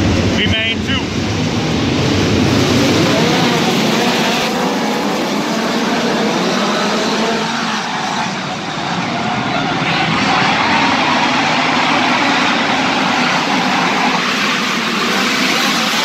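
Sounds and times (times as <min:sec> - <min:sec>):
race car engines roaring: 0:00.0 - 0:16.0.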